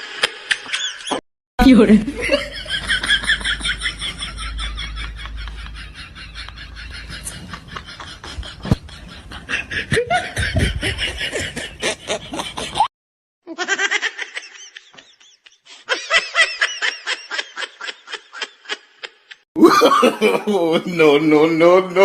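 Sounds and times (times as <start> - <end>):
person laughing: 2.1 - 12.9, 13.5 - 20.8.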